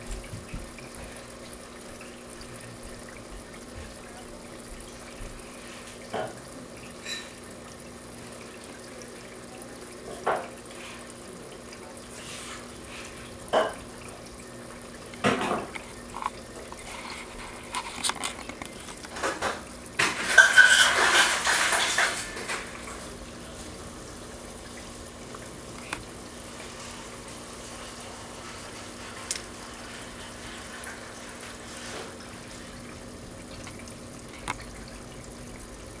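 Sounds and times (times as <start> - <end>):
water splashing and running: 0.0 - 36.0.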